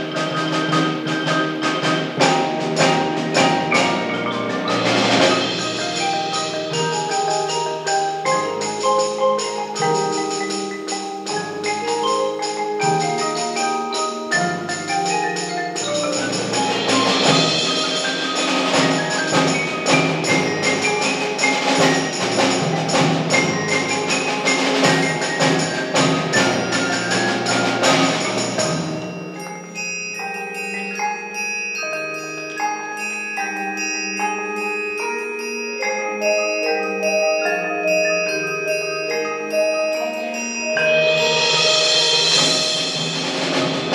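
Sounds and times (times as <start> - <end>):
percussion ensemble playing: 0.0 - 43.9.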